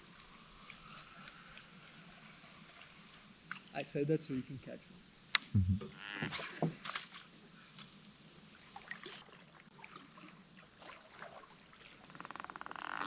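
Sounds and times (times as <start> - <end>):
faint river ambience: 0.0 - 13.0.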